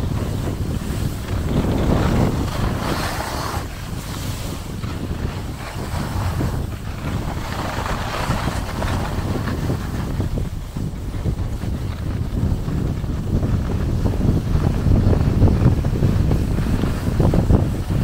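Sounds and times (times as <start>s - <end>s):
skis scraping packed snow: 0.0s - 18.0s
wind buffeting microphone: 0.0s - 18.0s.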